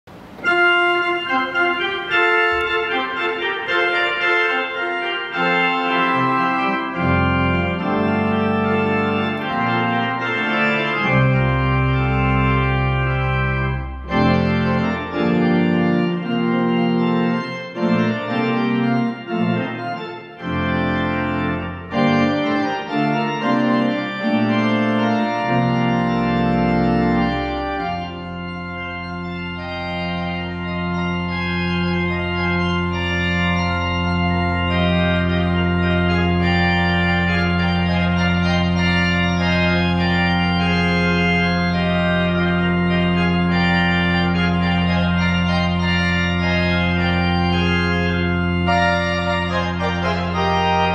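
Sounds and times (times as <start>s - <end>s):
low organ bass notes: 0.1s - 50.9s
organ playing chords: 0.1s - 50.9s.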